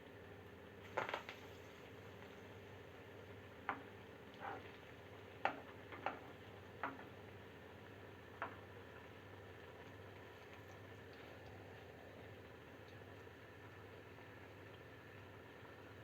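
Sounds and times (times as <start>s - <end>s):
faint frying background: 0.0s - 16.0s
oil popping: 0.9s - 2.4s, 3.5s - 16.0s.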